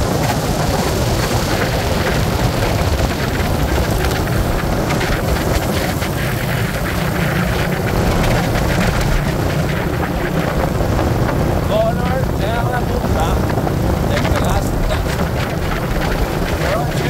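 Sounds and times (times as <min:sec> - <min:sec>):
vehicle running: 0:00.0 - 0:17.0
wind buffeting microphone: 0:00.0 - 0:17.0.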